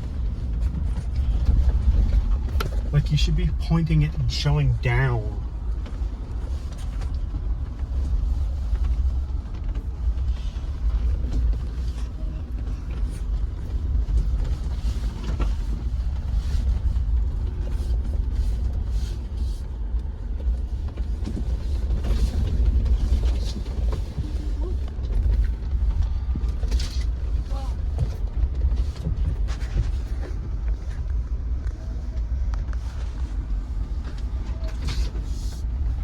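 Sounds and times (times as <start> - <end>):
vehicle rumbling on dirt trail: 0.0 - 36.0.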